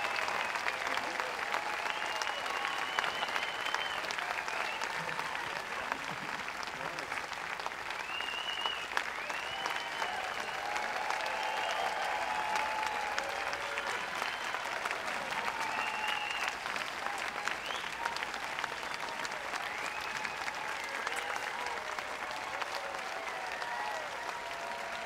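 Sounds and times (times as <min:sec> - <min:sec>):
cheers and calls: 0:00.0 - 0:06.0, 0:07.9 - 0:25.0
audience clapping: 0:00.0 - 0:25.0.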